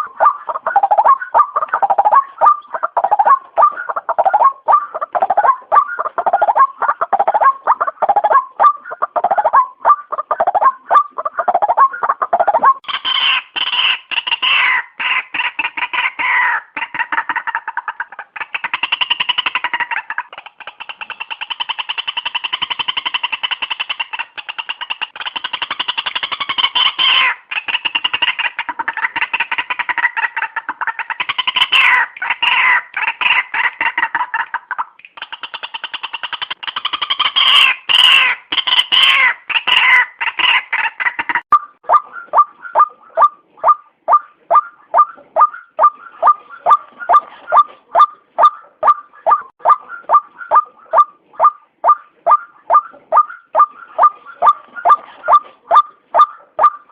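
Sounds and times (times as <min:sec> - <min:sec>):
waterhen calling: 0:00.0 - 0:56.9.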